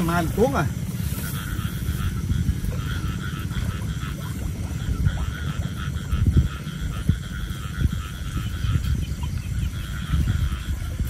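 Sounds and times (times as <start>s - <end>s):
frogs croaking: 0.0s - 11.0s
low rumble: 0.0s - 11.0s.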